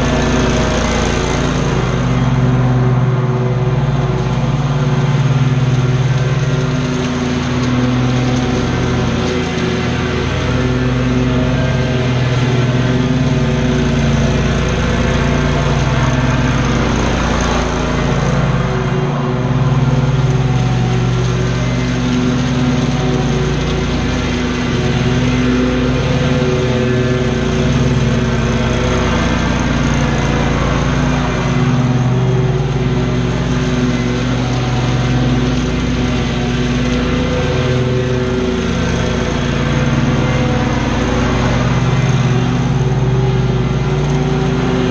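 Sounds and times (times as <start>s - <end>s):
small gasoline engine running: 0.0s - 44.9s.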